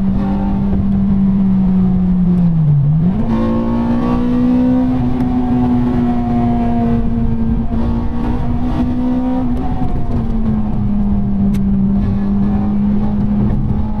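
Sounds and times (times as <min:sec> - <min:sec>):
car engine cruising: 0:00.0 - 0:14.0
tyre and road rumble: 0:00.0 - 0:14.0.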